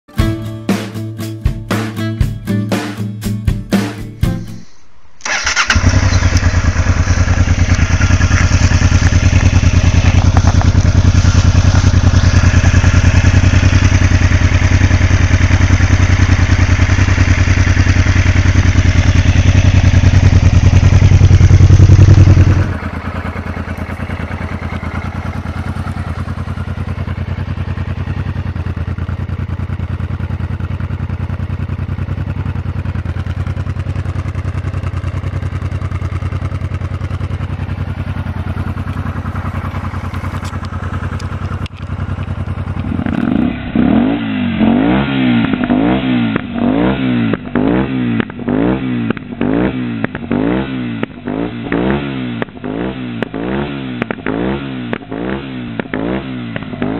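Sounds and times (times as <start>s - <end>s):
motorcycle engine running: 5.2s - 56.9s
motorcycle idling: 5.2s - 56.9s.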